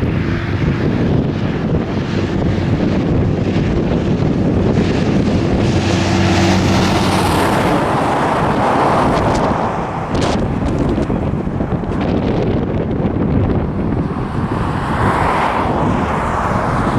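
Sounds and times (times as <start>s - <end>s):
freight locomotives running past: 0.0s - 16.9s
wind buffeting microphone: 0.0s - 16.9s.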